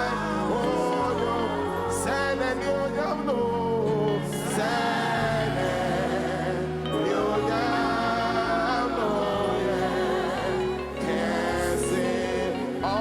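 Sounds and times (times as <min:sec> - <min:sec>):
sustained keyboard chords: 0:00.0 - 0:13.0
wordless vocals: 0:00.0 - 0:13.0.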